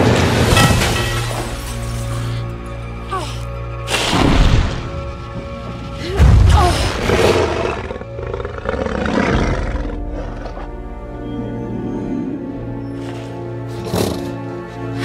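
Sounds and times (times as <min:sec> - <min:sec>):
orchestral film music: 0:00.0 - 0:15.0.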